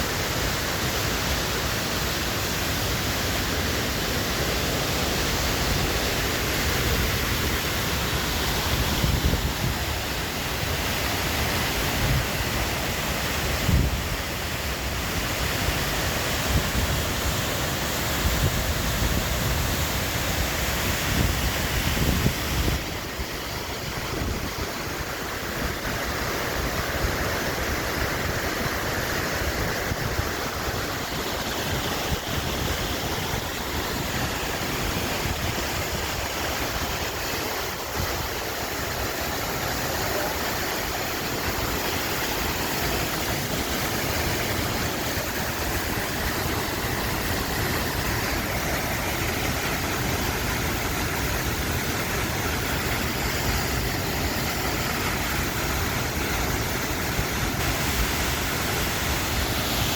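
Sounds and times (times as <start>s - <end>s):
waterfall pouring: 0.0s - 59.9s.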